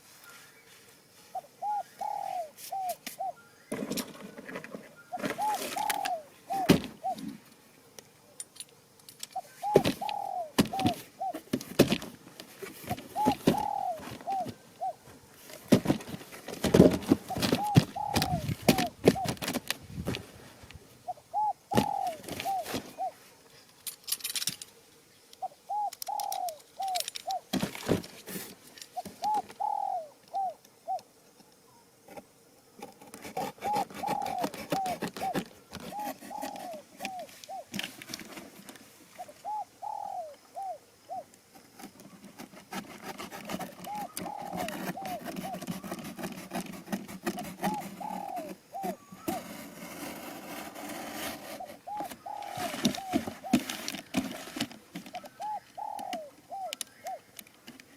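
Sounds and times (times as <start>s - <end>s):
doves calling: 0.0s - 32.0s, 33.4s - 57.9s.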